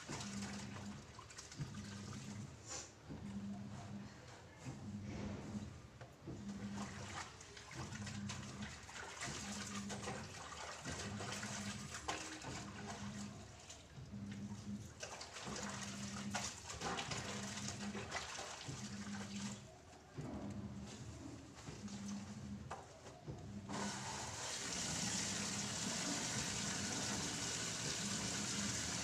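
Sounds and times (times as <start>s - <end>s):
laundry scrubbing in water: 0.0s - 3.1s, 5.1s - 29.0s.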